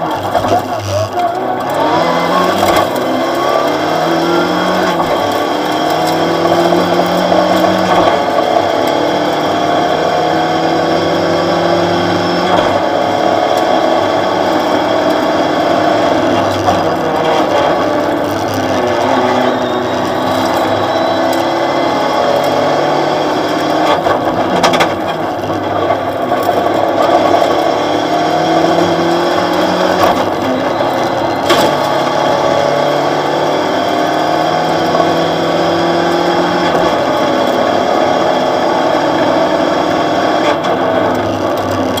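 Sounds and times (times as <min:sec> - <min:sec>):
car engine revving: 0:00.0 - 0:42.0
road and gravel noise: 0:00.0 - 0:42.0.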